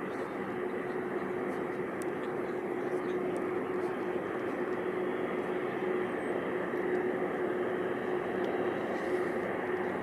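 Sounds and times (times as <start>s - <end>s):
constant engine hum: 0.0s - 10.0s
jet engines rushing: 0.0s - 10.0s.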